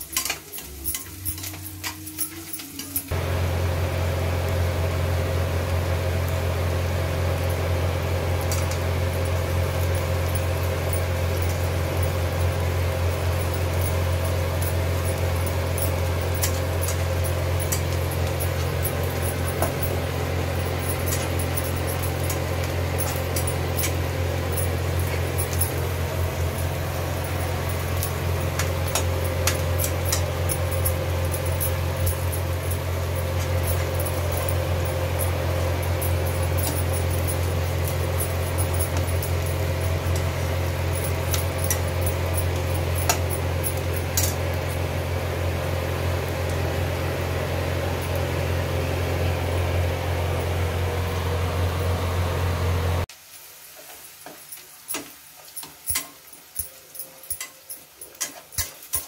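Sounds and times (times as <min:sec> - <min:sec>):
loud steady low hum: 0:00.8 - 0:53.1.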